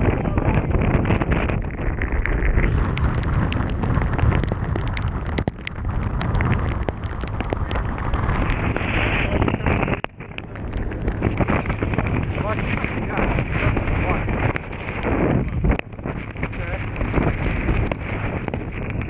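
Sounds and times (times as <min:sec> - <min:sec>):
raindrops ticking on camera: 0:00.0 - 0:19.0
wind buffeting microphone: 0:00.0 - 0:19.0.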